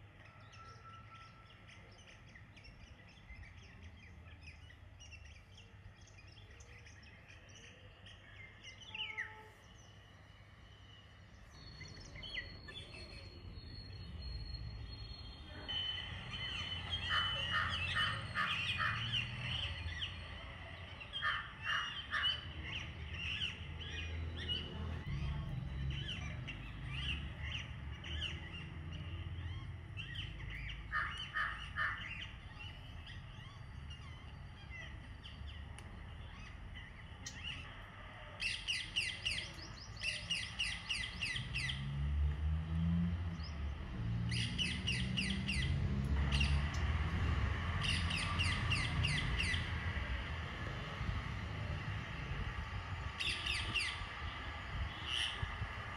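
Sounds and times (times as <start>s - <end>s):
birds chirping and trilling: 0.0s - 55.9s.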